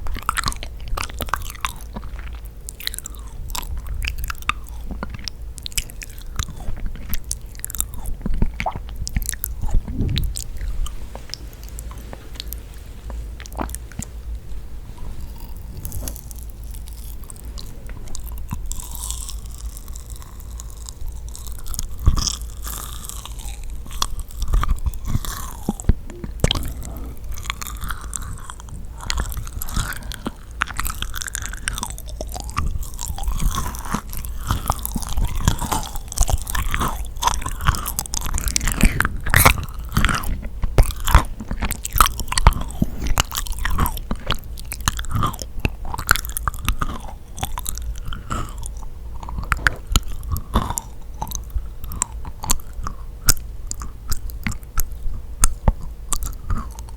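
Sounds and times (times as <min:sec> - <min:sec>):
close chewing with sticky clicks: 0:00.0 - 0:56.9.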